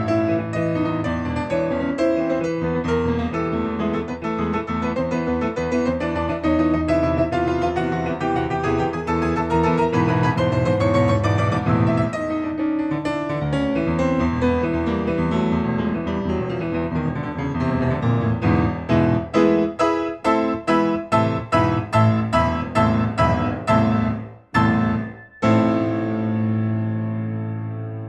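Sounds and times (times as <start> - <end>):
solo piano chords: 0.0 - 28.0.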